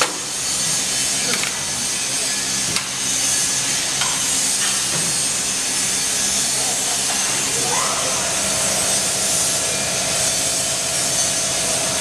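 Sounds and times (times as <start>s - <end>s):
wrapping machine hum and hiss: 0.0s - 12.0s.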